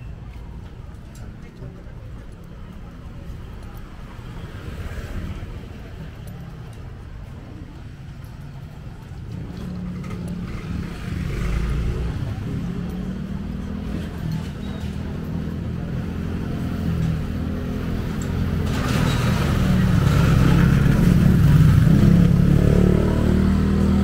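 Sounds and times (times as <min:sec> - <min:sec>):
street noise: 0:00.0 - 0:24.0.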